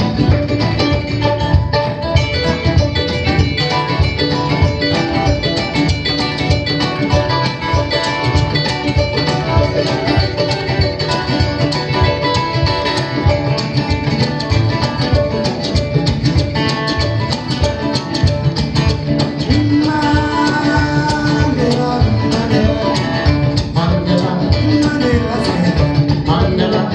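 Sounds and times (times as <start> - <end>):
acoustic plucked string music: 0.0 - 26.9.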